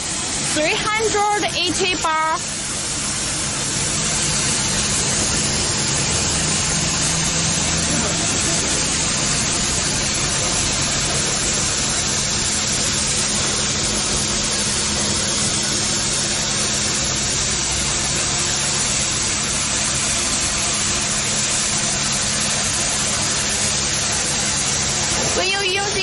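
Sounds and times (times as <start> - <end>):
pump motor drone: 0.0 - 26.0
water jet hissing: 0.0 - 26.0.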